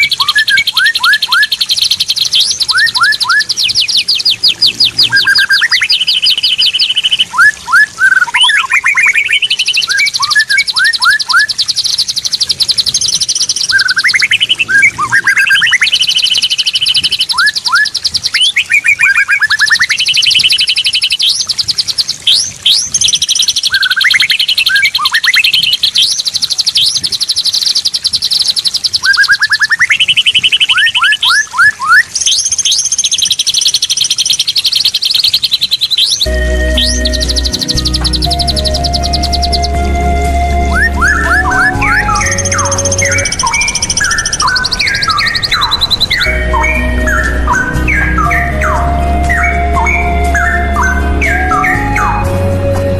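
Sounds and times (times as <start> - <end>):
bird singing trills and whistles: 0.0 - 52.3.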